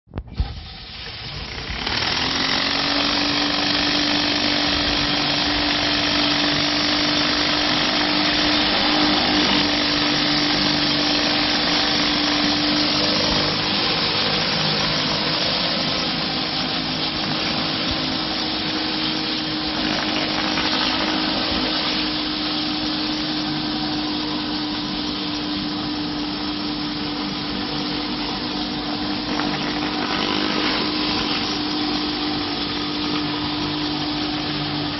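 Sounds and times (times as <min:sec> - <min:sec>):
pressure washer machine hum: 0:00.2 - 0:34.9
high-pressure water spray hiss: 0:00.4 - 0:34.9.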